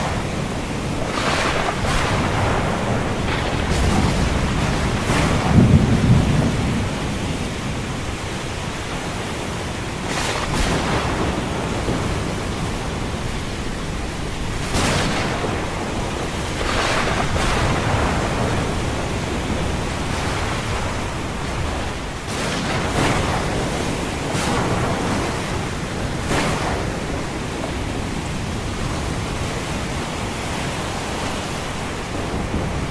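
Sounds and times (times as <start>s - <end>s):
ocean waves surging: 0.0s - 32.9s
steady rain: 0.0s - 32.9s
thunder rumbling: 0.0s - 32.9s.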